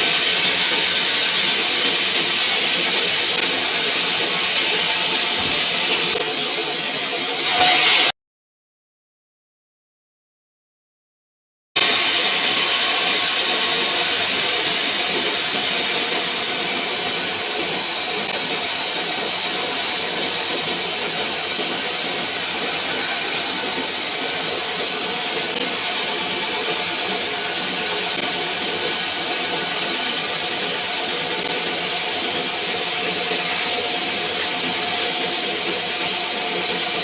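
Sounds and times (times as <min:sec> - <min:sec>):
sawmill saw running: 0:00.0 - 0:08.1, 0:11.8 - 0:37.0.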